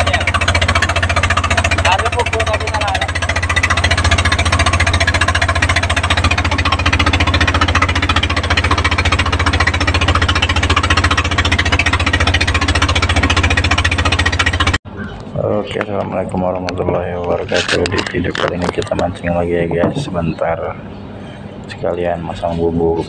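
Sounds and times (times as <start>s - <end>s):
boat engine chugging: 0.0s - 23.0s.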